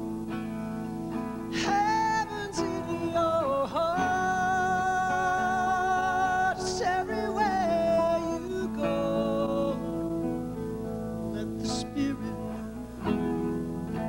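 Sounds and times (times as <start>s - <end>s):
acoustic guitar: 0.0s - 14.0s
man singing: 1.5s - 10.4s, 11.3s - 14.0s.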